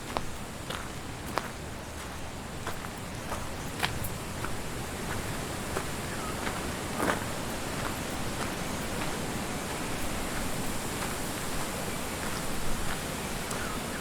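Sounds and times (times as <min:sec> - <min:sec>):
strong wind through trees: 0:00.0 - 0:14.0.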